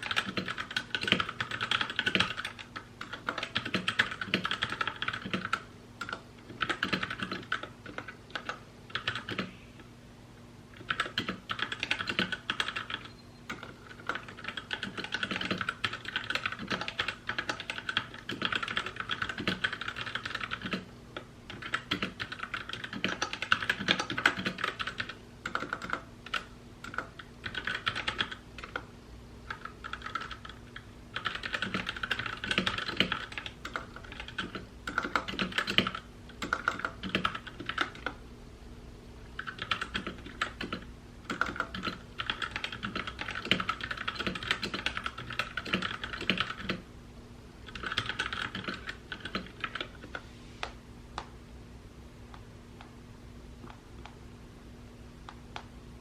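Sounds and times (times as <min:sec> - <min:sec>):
mechanical keyboard typing: 0:00.0 - 0:09.5, 0:10.8 - 0:38.2, 0:39.4 - 0:46.8, 0:47.7 - 0:50.2.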